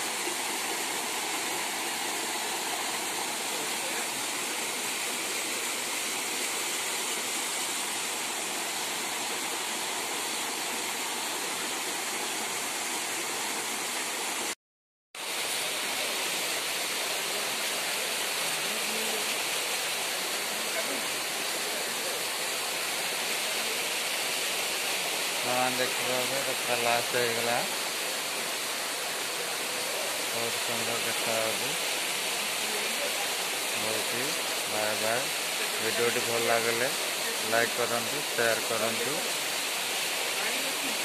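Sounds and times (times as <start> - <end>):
waterfall rushing: 0.0 - 14.6, 15.2 - 41.0.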